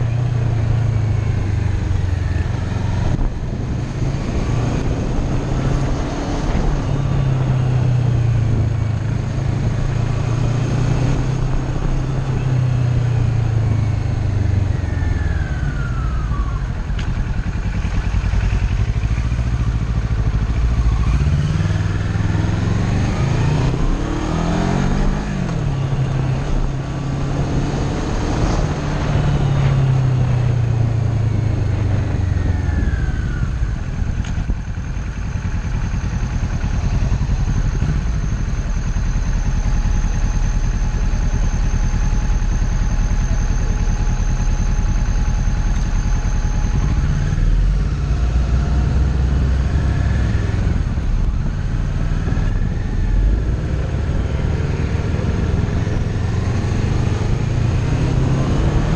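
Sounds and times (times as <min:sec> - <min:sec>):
motorcycle engine: 0:00.0 - 0:58.9.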